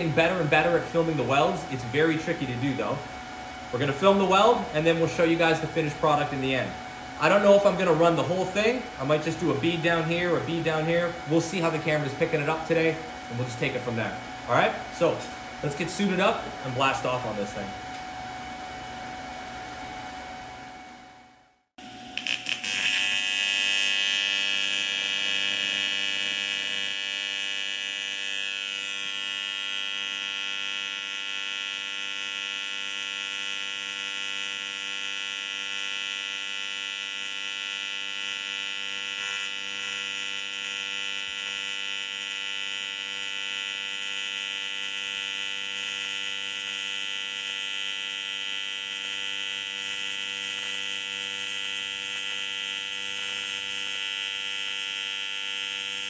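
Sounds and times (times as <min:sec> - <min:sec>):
welding arc buzzing: 0:00.0 - 0:18.1, 0:21.8 - 0:56.0.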